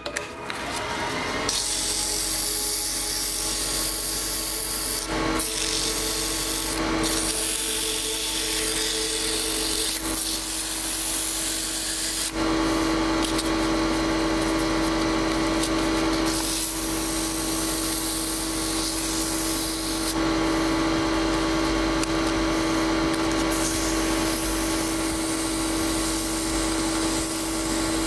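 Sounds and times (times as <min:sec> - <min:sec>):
lathe running hum: 0:00.3 - 0:28.0
sandpaper on spinning wood: 0:01.5 - 0:28.0.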